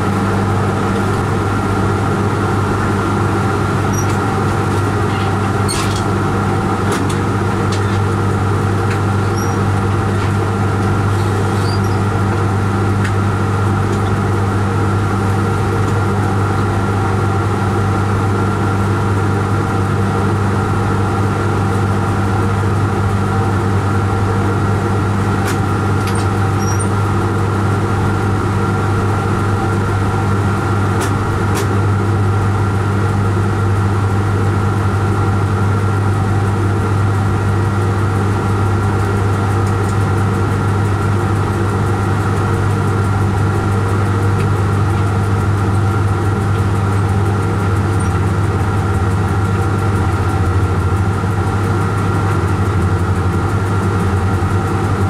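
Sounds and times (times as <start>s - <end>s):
locomotive engine drone: 0.0s - 55.0s.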